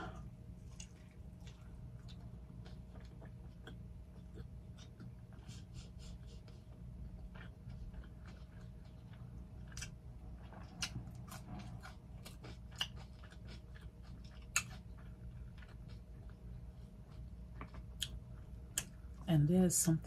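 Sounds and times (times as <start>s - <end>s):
close-miked chewing: 0.2s - 19.2s.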